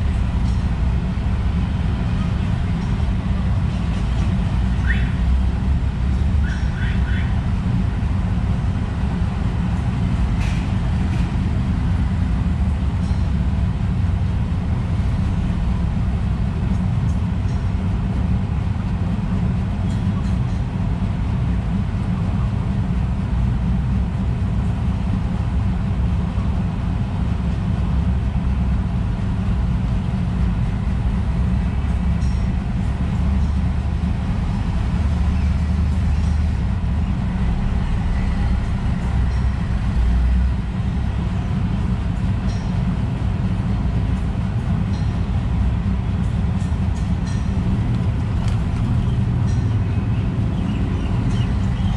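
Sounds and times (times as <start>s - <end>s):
low rumbling noise: 0.0s - 51.9s.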